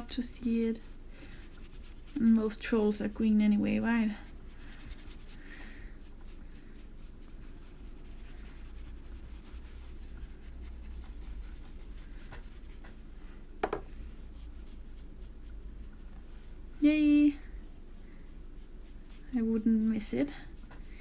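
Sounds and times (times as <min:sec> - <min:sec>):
paintbrush rubbing on paper: 0:00.0 - 0:12.9, 0:14.1 - 0:16.2, 0:17.6 - 0:21.0
steady low hum: 0:00.0 - 0:21.0.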